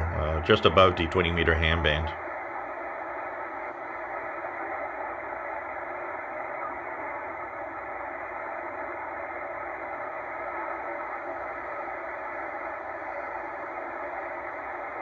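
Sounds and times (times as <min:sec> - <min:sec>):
shortwave radio hiss: 0:00.0 - 0:15.0.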